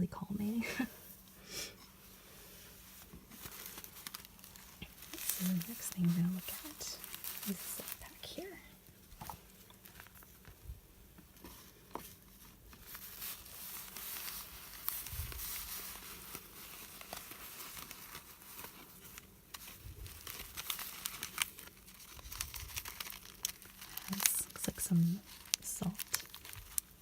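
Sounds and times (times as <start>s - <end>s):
crinkly wrapping rustling: 0.2s - 27.0s.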